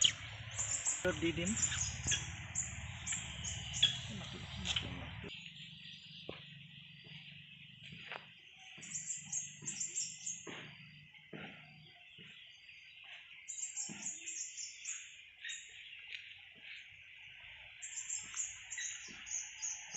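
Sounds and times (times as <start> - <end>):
bird chirping: 0.0 - 19.9.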